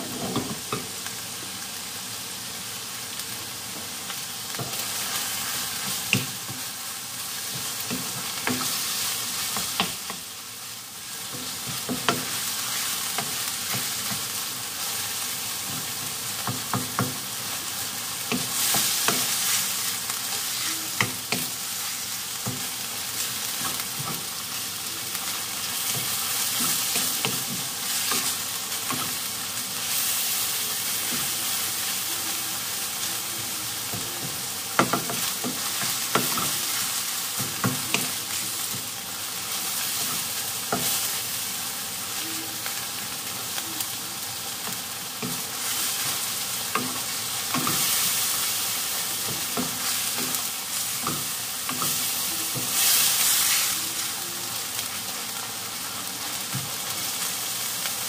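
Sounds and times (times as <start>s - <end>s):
meat and onion sizzling in pan: 0.0s - 58.0s.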